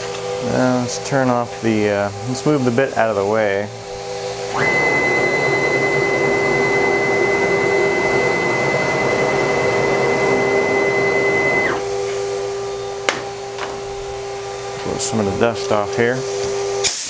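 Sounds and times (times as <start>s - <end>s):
router machine whine: 0.0s - 15.4s.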